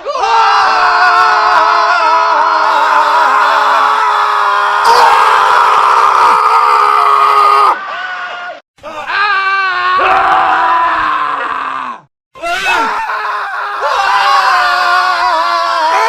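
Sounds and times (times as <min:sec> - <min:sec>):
men screaming: 0:00.0 - 0:16.0.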